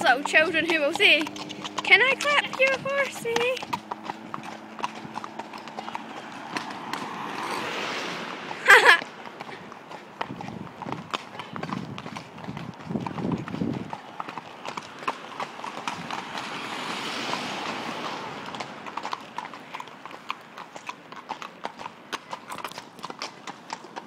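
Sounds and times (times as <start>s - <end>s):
horse hooves clip-clopping on tarmac: 0.0s - 24.0s.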